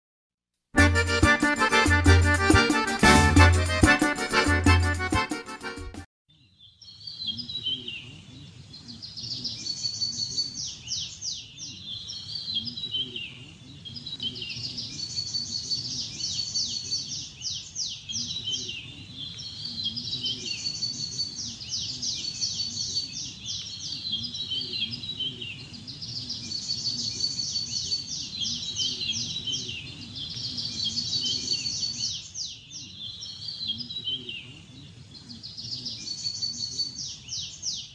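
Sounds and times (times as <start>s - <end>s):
bird song with trill and whistle: 6.3s - 37.9s
faint background noise: 6.4s - 37.9s.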